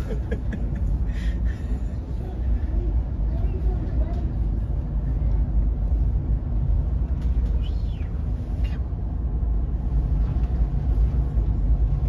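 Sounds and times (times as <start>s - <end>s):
deep ship engine rumble: 0.0s - 12.0s.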